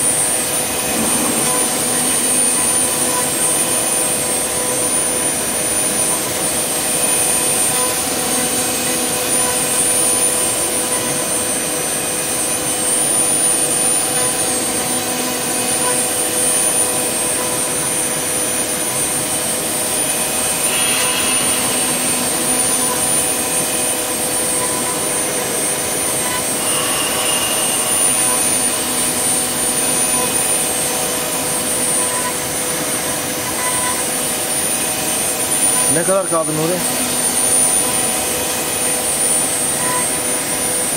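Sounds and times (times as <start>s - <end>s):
lathe motor high whine: 0.0s - 40.9s.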